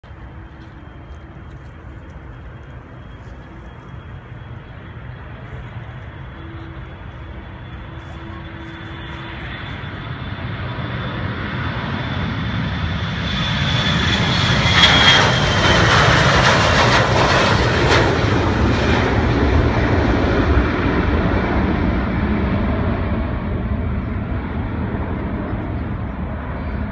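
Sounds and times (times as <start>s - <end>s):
high engine whine: 0.0s - 26.9s
jet airliner taking off: 0.0s - 26.9s.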